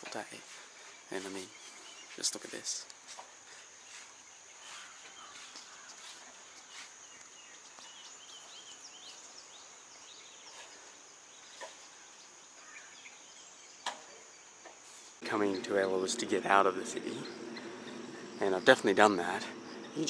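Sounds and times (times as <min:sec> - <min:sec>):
insects droning: 0:00.0 - 0:20.0
bird chirps: 0:00.2 - 0:20.0.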